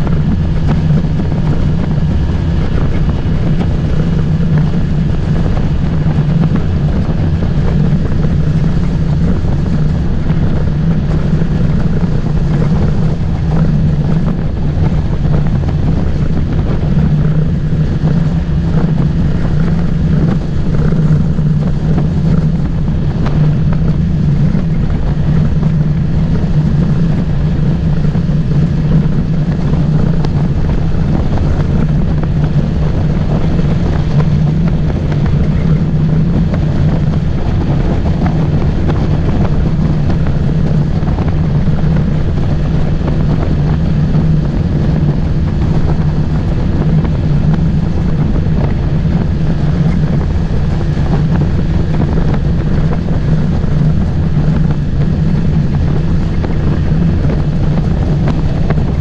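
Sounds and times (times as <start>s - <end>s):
motorboat engine droning: 0.0s - 59.0s.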